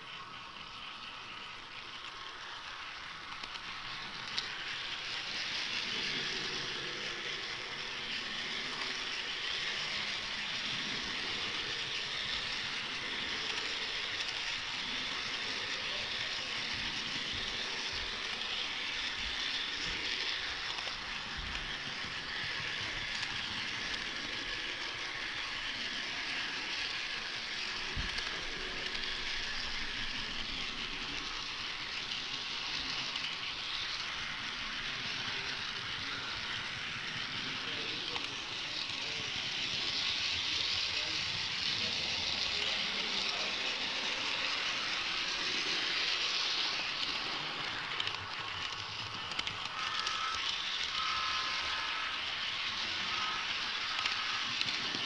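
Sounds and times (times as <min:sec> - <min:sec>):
model train wheels rolling on rails: 0:00.0 - 0:55.0.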